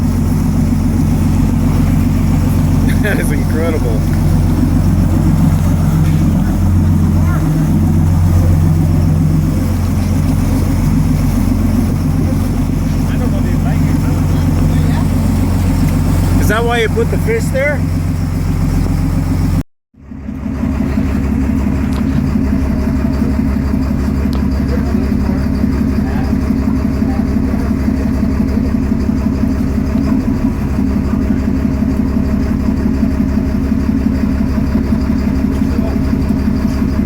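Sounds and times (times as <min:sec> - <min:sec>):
boat engine idling: 0:00.0 - 0:37.0.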